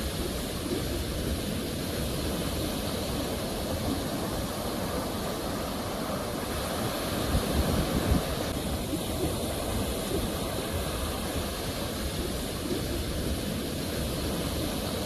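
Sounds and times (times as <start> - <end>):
surf rushing on shore: 0.0 - 15.0.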